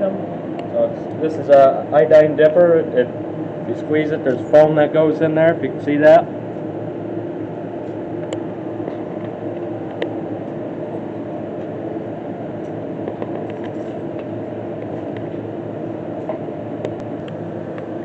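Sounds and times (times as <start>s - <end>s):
barn machinery droning: 0.0s - 18.0s.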